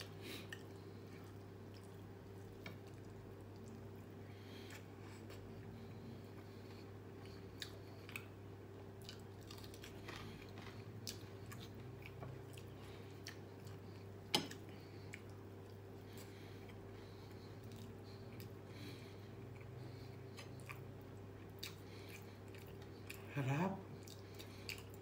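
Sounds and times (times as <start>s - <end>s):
chewing food: 0.0s - 25.0s
steady low hum: 0.0s - 25.0s.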